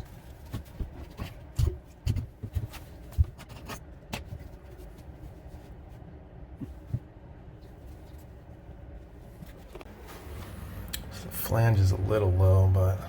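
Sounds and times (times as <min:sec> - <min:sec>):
handling noise: 0:00.0 - 0:10.6.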